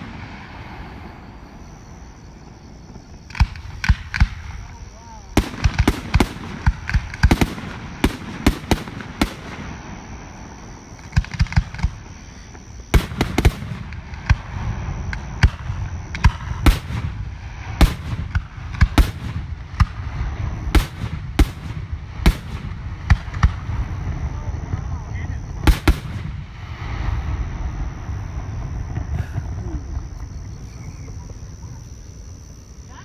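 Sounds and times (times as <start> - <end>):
fireworks bangs: 0.0 - 32.5.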